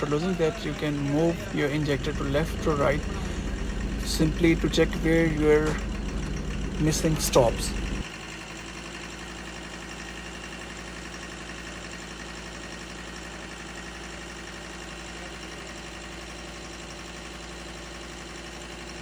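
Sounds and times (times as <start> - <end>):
diesel engine idling with misfire: 0.0 - 19.0.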